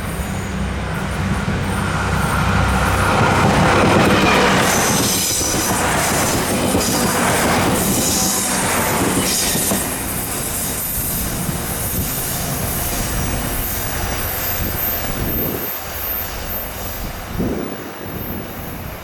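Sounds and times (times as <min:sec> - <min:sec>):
train wheel-on-rail rumble: 0:00.0 - 0:19.0.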